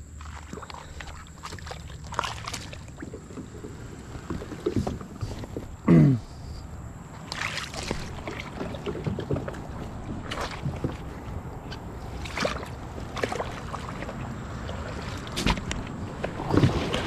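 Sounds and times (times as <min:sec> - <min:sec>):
feet wading in water: 0:00.0 - 0:05.8, 0:06.7 - 0:17.0.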